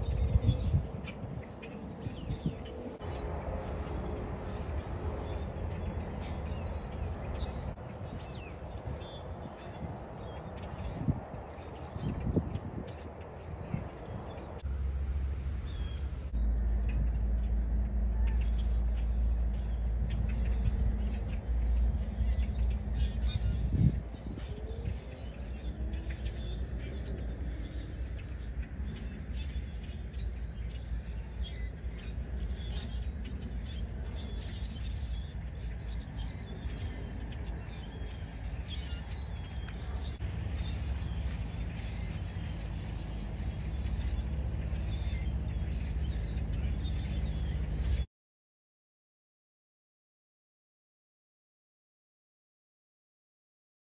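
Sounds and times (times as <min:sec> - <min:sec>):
steady low rumble: 0:00.0 - 0:48.0
small birds chirping: 0:00.0 - 0:48.1.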